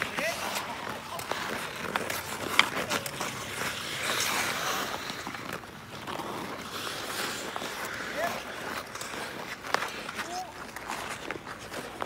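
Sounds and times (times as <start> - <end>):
skate blades scraping ice: 0.0 - 12.0.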